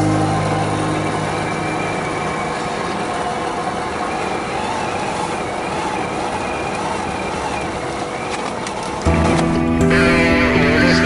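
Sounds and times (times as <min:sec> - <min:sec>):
toy car drivetrain whine: 0:00.0 - 0:11.0.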